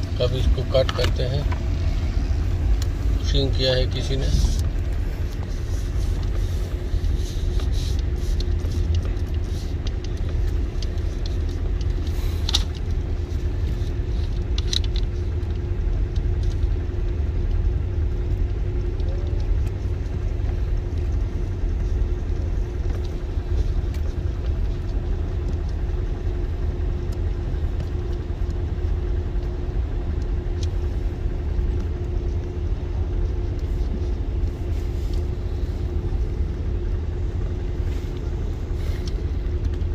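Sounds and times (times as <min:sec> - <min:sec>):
constant hum: 0:00.0 - 0:39.9
low rumble: 0:00.0 - 0:39.9.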